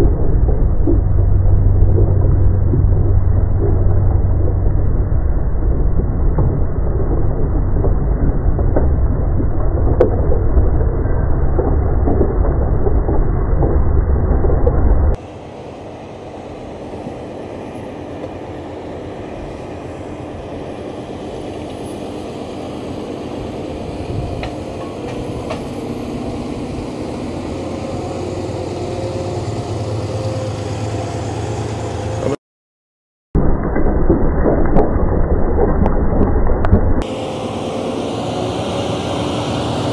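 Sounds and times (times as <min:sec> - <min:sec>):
tractor engine under load: 0:00.0 - 0:32.4.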